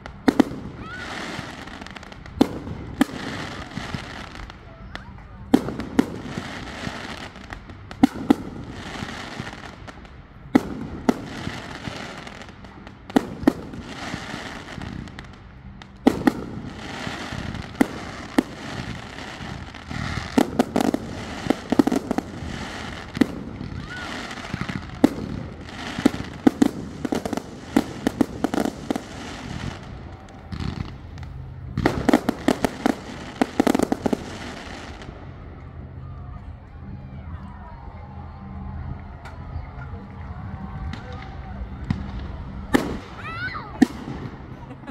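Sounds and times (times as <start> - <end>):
fireworks bangs: 0.0 - 35.4, 40.6 - 44.9
fireworks crackling: 0.0 - 36.8, 38.2 - 44.9.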